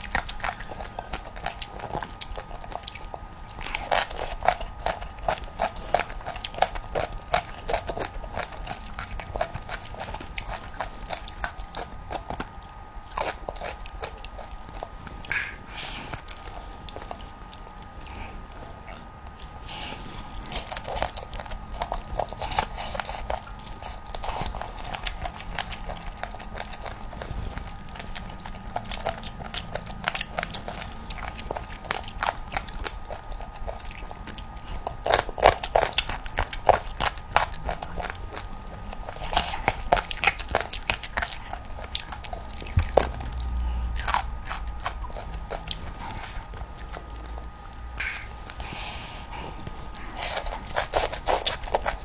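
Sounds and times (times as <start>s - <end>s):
wet chewing and crunching: 0.0s - 52.0s.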